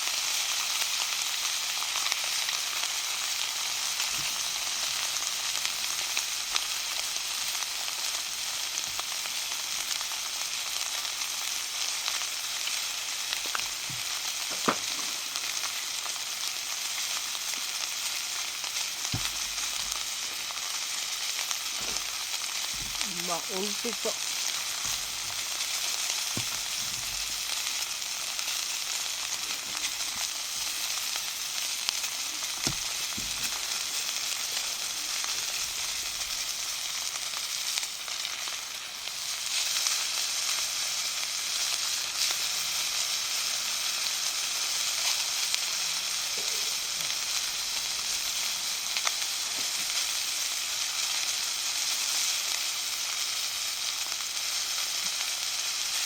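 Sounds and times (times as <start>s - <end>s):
meat sizzling in a skillet: 0.0s - 56.0s.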